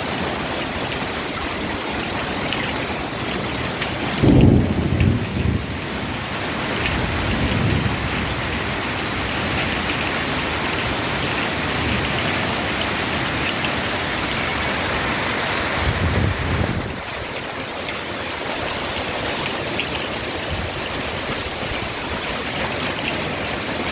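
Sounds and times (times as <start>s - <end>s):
heavy rain with hail: 0.0s - 23.9s.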